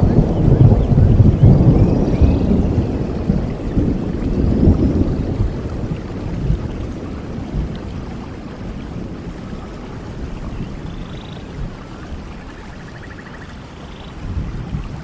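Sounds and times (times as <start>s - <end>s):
low rumble of thunder: 0.0s - 15.0s
steady rain: 0.0s - 15.0s.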